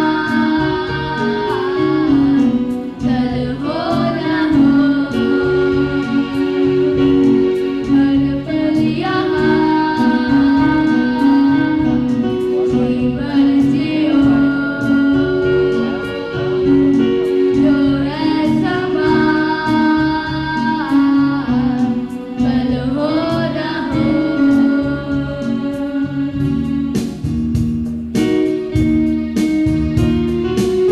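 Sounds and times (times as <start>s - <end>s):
students singing together: 0.0s - 26.5s
instrumental accompaniment with beat: 0.0s - 30.9s.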